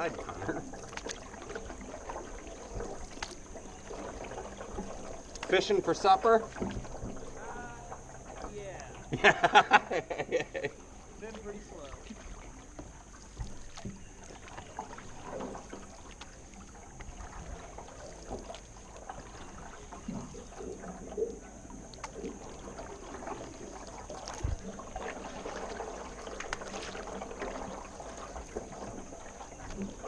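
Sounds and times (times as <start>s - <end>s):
canoe paddles pulling through water: 0.0s - 30.0s
water trickling off paddles: 0.0s - 30.0s.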